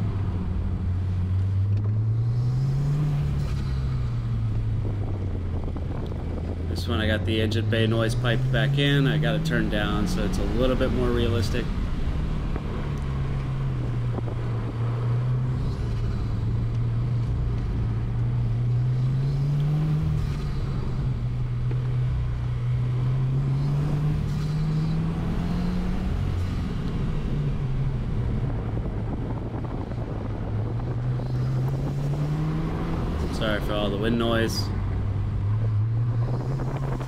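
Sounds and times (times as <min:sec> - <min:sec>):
car engine revving: 0:00.0 - 0:37.0
wind noise: 0:03.2 - 0:21.3, 0:23.6 - 0:37.0.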